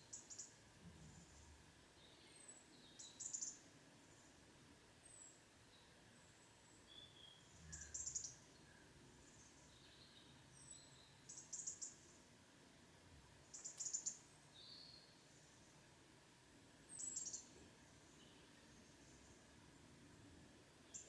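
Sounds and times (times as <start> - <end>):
songbirds chirping: 0.0 - 12.3, 13.3 - 21.0.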